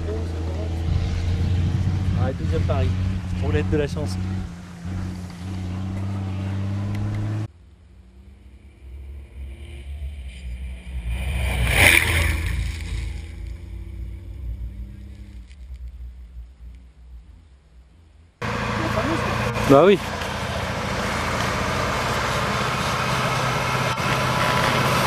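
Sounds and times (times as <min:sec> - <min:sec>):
steady engine drone: 0:00.0 - 0:25.0
truck driving past: 0:00.0 - 0:25.0.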